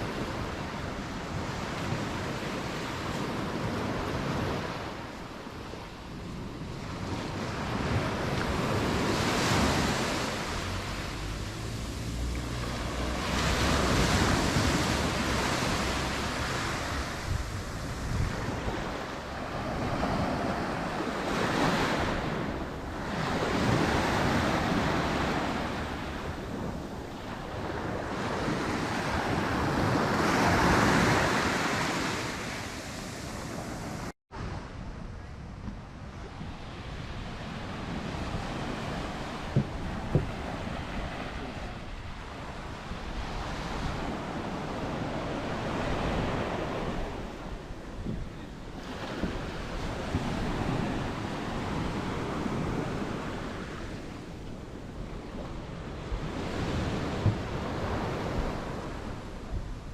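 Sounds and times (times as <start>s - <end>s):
sea waves breaking on beach: 0.0s - 34.9s, 36.0s - 59.9s.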